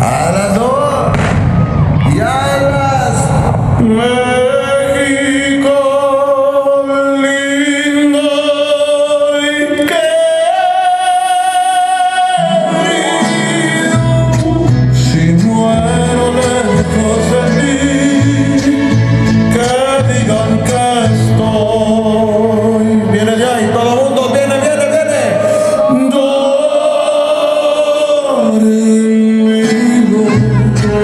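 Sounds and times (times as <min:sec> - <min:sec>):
person singing with vibrato: 0:03.6 - 0:31.0.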